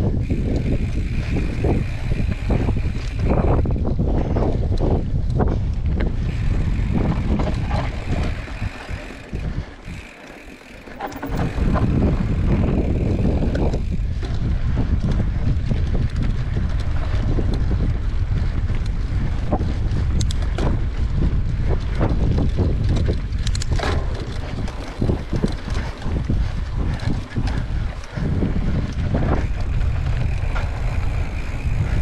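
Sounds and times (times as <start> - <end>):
bike clicks and rattles: 0.0 - 32.0
wind buffeting microphone: 0.0 - 32.0.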